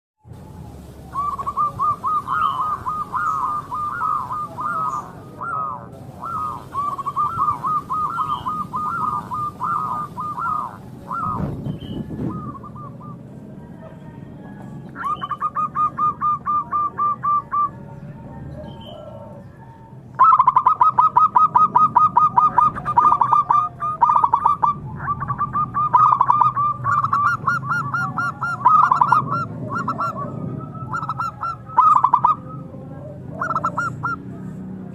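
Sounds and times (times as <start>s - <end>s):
dove cooing in rolling notes: 0.3s - 34.9s
high chirps of small birds: 0.3s - 34.9s.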